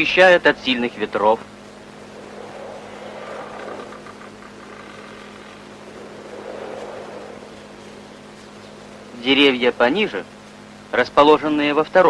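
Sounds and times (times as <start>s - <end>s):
old film soundtrack hiss and hum: 0.0s - 12.0s.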